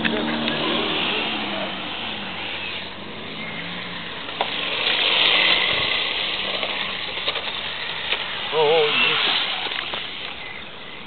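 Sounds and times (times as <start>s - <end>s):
rc car tyres and motor hissing: 0.0s - 11.0s.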